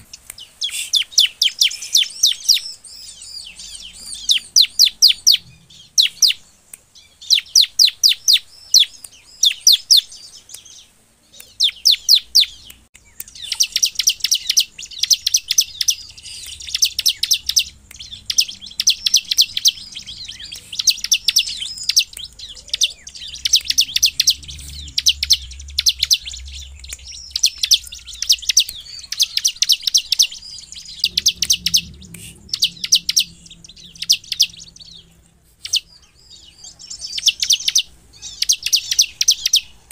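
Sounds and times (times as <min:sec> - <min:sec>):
bird calling in rapid high bursts: 0:00.0 - 0:06.5, 0:07.1 - 0:10.4, 0:13.2 - 0:39.8.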